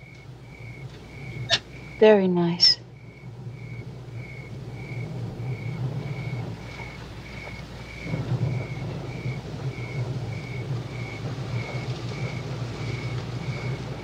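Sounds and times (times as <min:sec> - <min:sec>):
crickets chirping: 0:00.0 - 0:14.0
low steady hum: 0:00.0 - 0:14.0.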